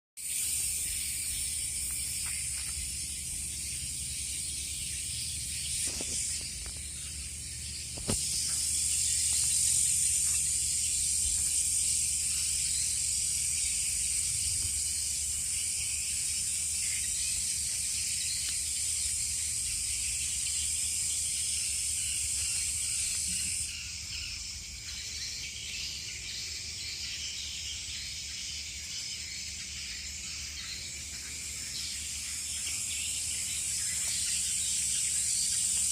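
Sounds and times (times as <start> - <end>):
insects chorus: 0.2 - 35.9
shrill insect band: 0.2 - 35.9.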